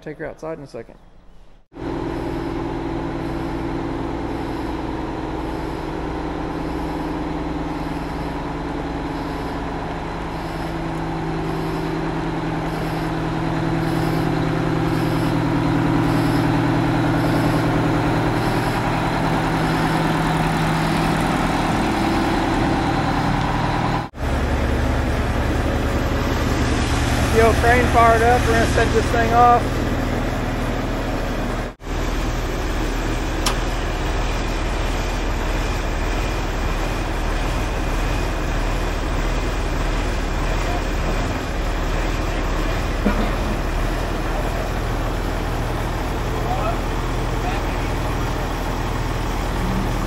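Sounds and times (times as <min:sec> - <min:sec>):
steady engine sound: 0:00.0 - 0:50.0
truck engine running: 0:01.3 - 0:50.0.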